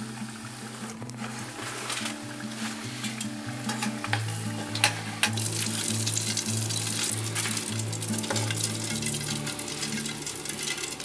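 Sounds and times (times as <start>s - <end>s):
background music with bass: 0.0s - 11.0s
oil sizzling: 0.0s - 11.0s.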